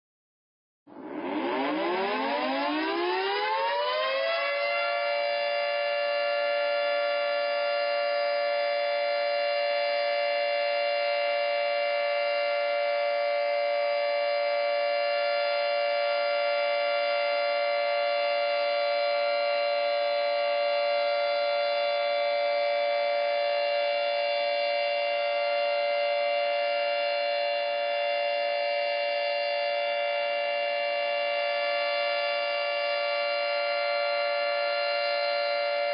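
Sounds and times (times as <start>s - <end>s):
warning siren wailing: 0.9s - 35.9s.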